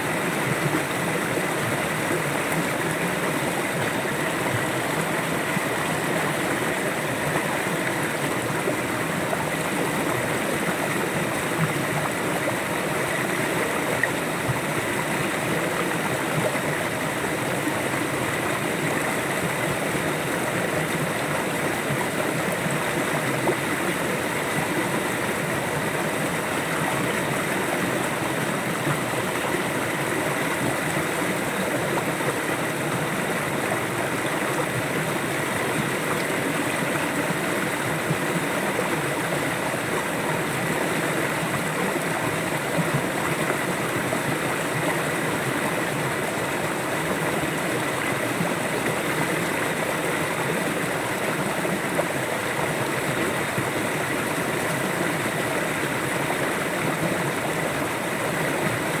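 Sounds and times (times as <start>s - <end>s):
river water rushing and gurgling: 0.0s - 59.0s.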